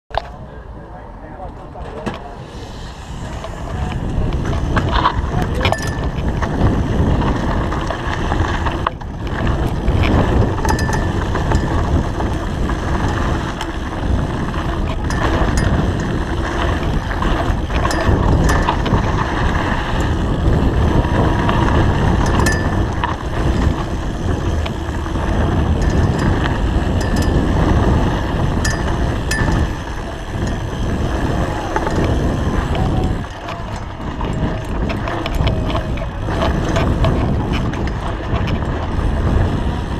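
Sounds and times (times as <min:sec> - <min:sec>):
wind buffeting microphone: 0:00.1 - 0:39.9
bike chain clicks and rattles: 0:03.2 - 0:39.9
tyres crunching on dirt: 0:04.1 - 0:39.5.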